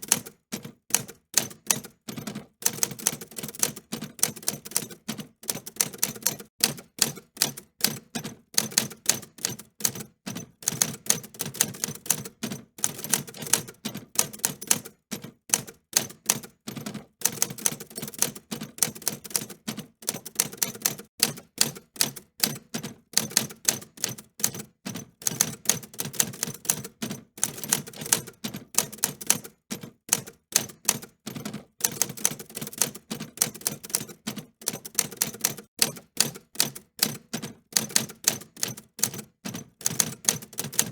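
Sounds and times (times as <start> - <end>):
typewriter keys clacking: 0.0 - 15.0, 15.6 - 40.9.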